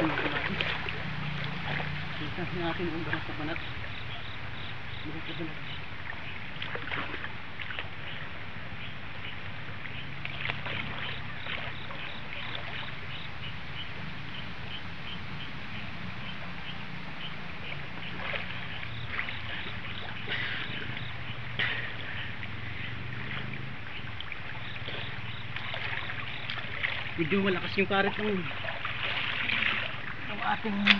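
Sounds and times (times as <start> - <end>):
insect chirping: 0.0 - 30.9
river current rushing: 0.0 - 30.9
water splashing from swimming: 0.0 - 30.9.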